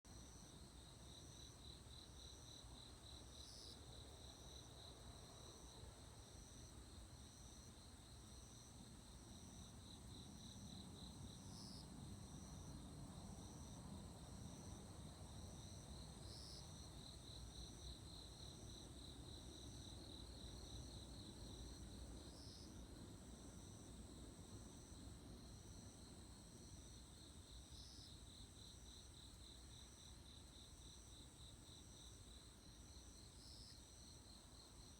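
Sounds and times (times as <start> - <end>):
crickets chirping: 0.1 - 34.9.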